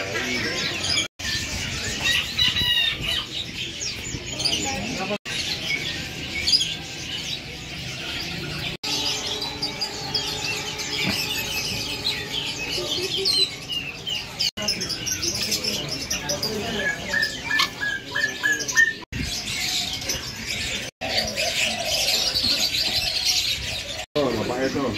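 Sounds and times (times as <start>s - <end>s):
caged songbirds chirping: 0.0s - 24.9s.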